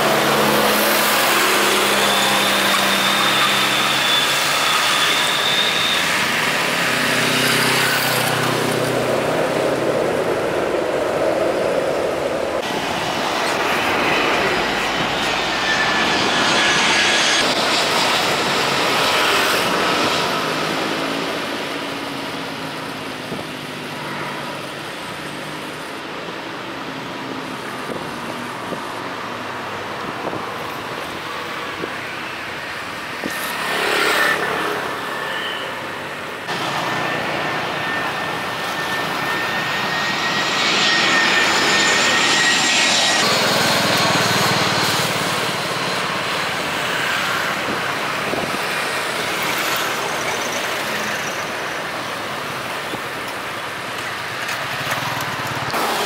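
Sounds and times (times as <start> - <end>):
high engine whine: 0.0 - 56.0
jet airliner engine noise: 0.0 - 56.0.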